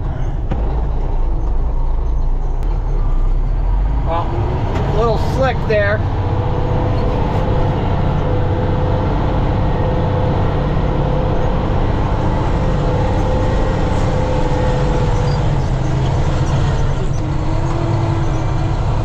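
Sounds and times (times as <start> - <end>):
truck engine drone: 0.0 - 19.0.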